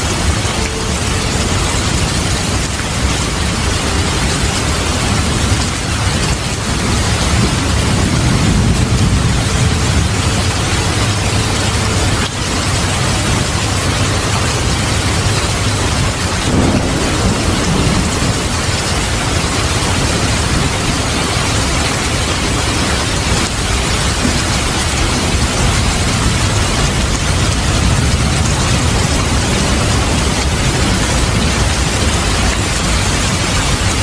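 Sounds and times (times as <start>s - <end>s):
heavy rain: 0.0s - 34.0s
thunder rumbling: 0.0s - 34.0s.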